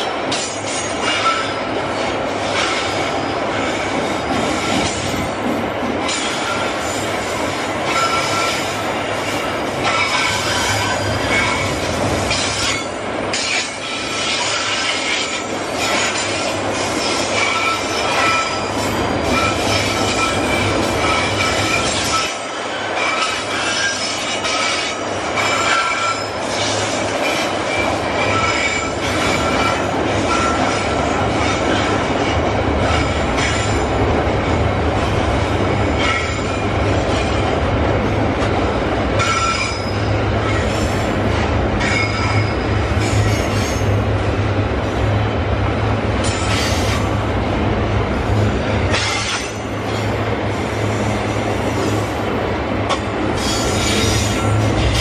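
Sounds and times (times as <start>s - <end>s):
wheels squealing on rails: 0.0s - 38.4s, 39.1s - 44.1s, 46.2s - 47.2s, 48.2s - 55.0s
freight train rolling rumble: 0.0s - 55.0s.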